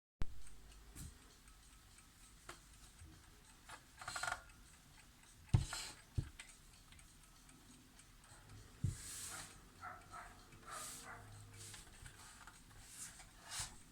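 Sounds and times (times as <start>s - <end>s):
alarm clock ticking faintly: 0.2s - 13.9s.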